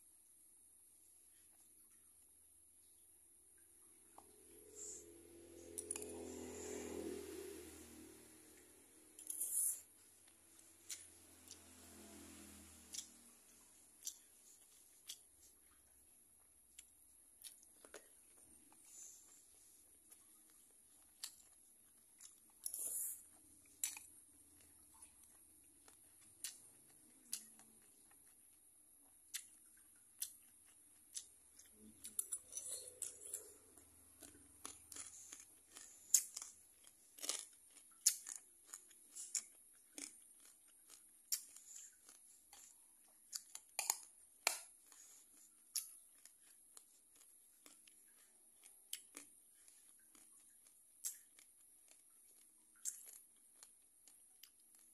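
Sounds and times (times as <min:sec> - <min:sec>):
crunchy chewing: 0:04.0 - 0:54.9.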